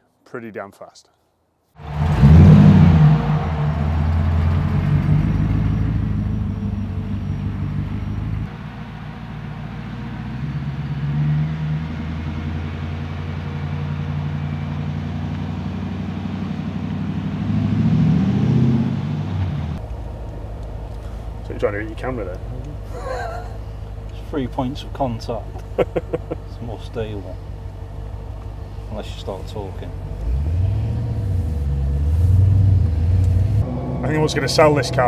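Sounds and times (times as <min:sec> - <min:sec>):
car engine driving by: 0:01.8 - 0:35.0.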